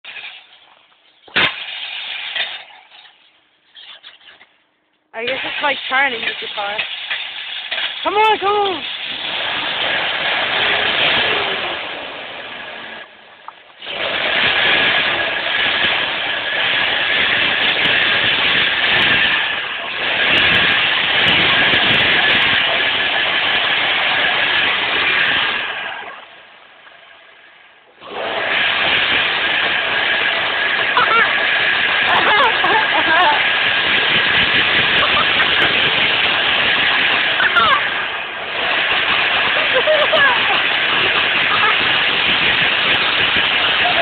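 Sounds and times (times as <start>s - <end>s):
water spraying around a van: 0.0s - 4.6s, 5.2s - 44.0s.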